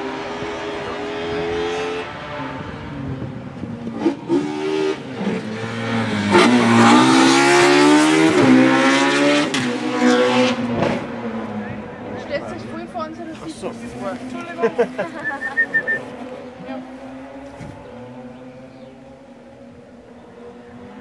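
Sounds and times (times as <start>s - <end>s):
race car engine passing: 0.0s - 21.0s.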